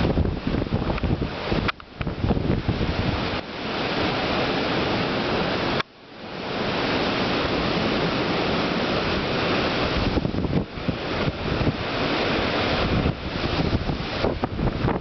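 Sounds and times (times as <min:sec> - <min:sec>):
downpour: 0:00.0 - 0:15.0
wind: 0:00.0 - 0:15.0.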